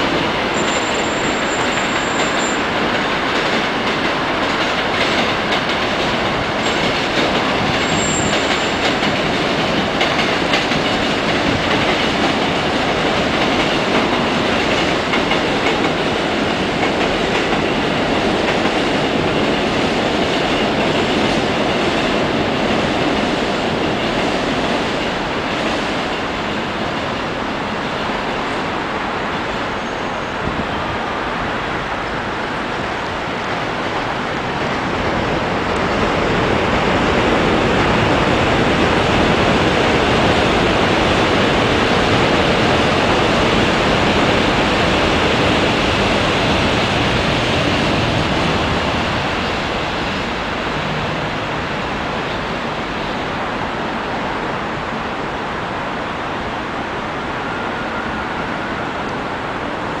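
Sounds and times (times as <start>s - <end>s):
train wheels rumbling on rails: 0.0s - 60.0s.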